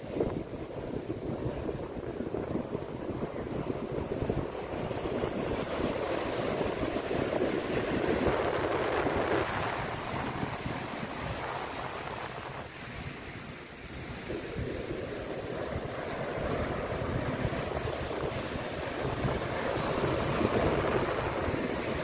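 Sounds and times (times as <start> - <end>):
ocean surf washing onto shore: 0.0 - 22.0.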